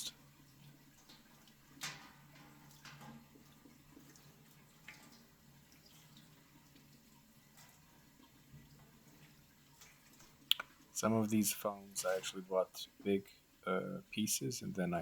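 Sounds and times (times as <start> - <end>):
faint water drips: 0.0 - 15.0.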